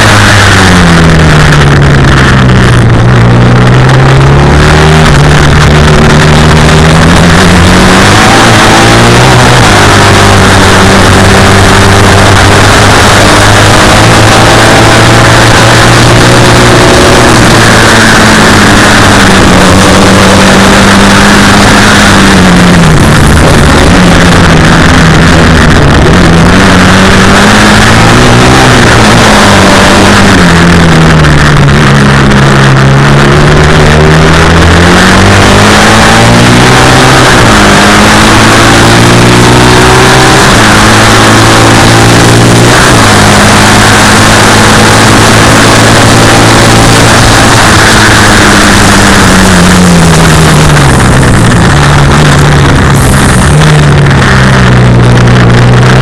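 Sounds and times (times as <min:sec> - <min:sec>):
racing sidecar engine revving: 0:00.0 - 0:56.0.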